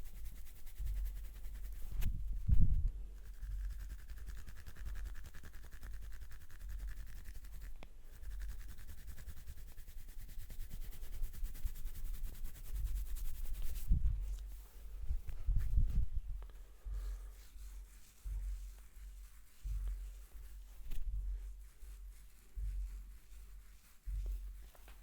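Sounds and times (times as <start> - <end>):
fingers rubbing through hair: 0.0 - 2.6, 3.2 - 25.0
low rumble of hand movement: 0.0 - 25.0.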